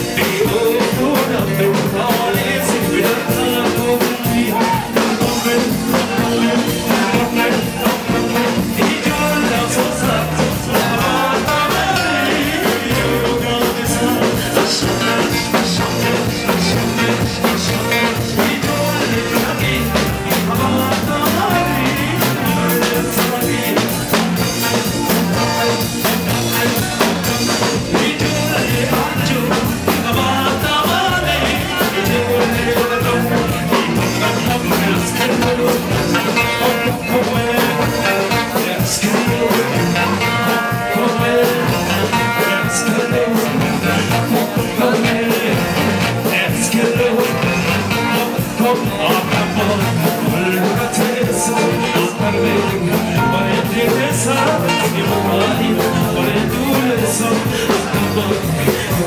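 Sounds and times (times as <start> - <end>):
bass: 0.0 - 59.0
drum kit beat: 0.0 - 59.0
keyboards: 0.0 - 59.0
person singing: 0.0 - 59.0.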